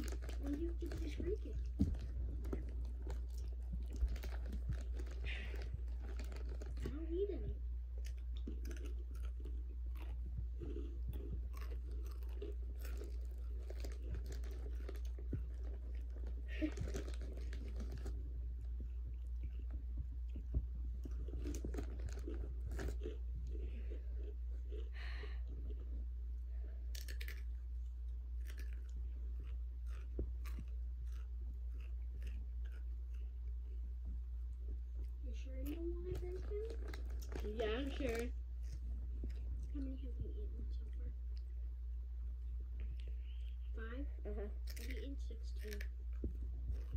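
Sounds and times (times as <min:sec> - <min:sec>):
person chewing crunchy chips: 0:00.0 - 0:07.2, 0:07.9 - 0:26.0, 0:26.7 - 0:33.9, 0:34.5 - 0:39.8, 0:44.6 - 0:46.9
steady low hum: 0:00.0 - 0:46.9.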